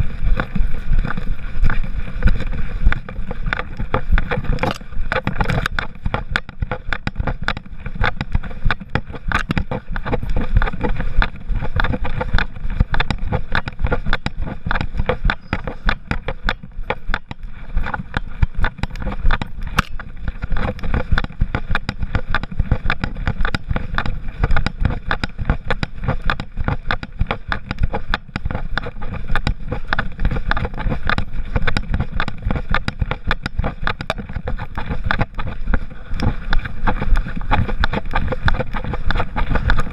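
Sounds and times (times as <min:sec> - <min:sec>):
camera rubbing and knocking: 0:00.0 - 0:39.9.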